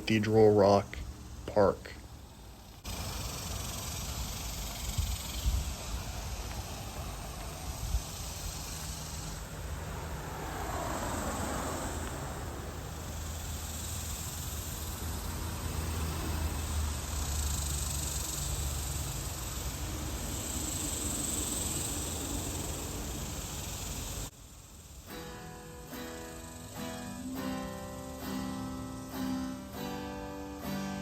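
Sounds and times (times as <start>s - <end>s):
insects buzzing: 0.0s - 31.0s
steady hiss: 0.0s - 31.0s.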